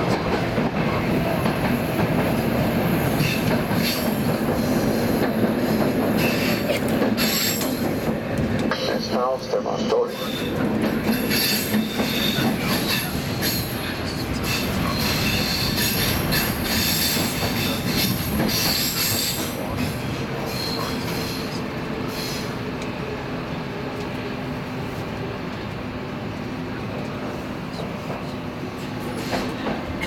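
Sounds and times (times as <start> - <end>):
train wheels on rail: 0.0 - 30.0.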